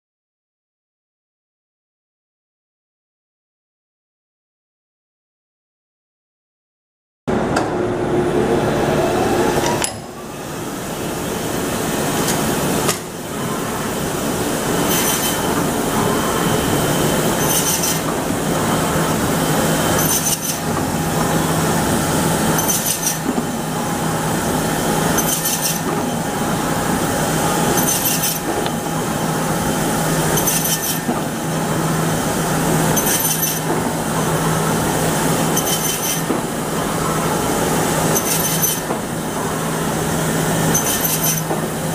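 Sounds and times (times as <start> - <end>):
meat bandsaw running: 8.2 - 41.9.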